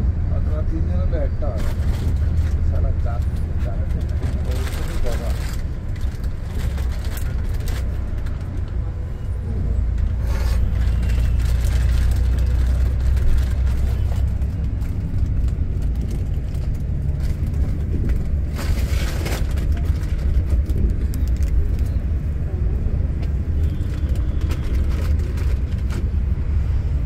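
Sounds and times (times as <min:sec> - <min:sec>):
coach engine and road drone: 0:00.0 - 0:27.0.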